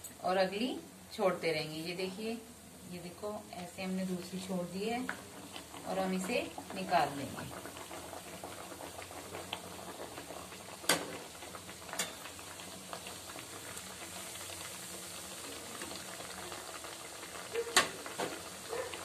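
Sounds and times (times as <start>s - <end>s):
oil sizzling and bubbling: 0.0s - 19.0s.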